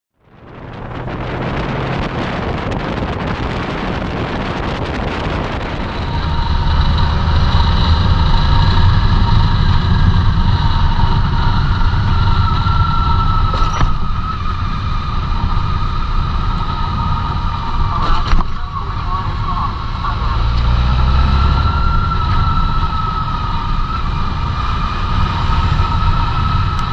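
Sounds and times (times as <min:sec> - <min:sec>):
motorcycle engine hum and whine: 0:00.1 - 0:26.9
rushing wind: 0:00.2 - 0:26.9.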